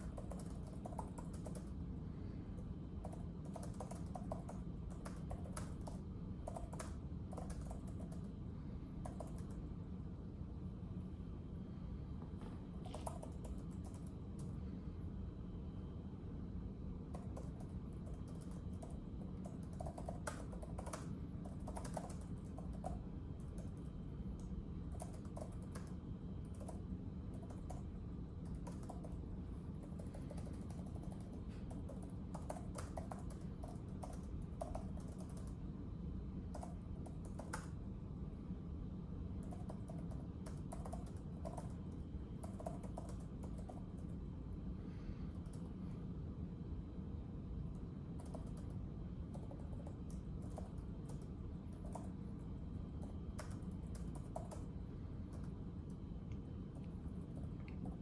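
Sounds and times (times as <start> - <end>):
low background rumble: 0.0 - 58.0.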